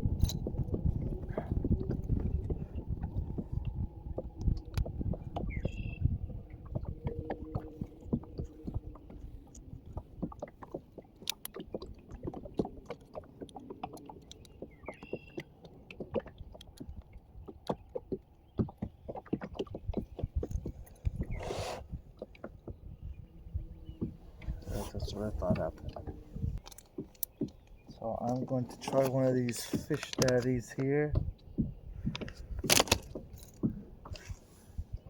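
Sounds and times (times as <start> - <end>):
knocks and clicks on a kayak: 0.0 - 35.0.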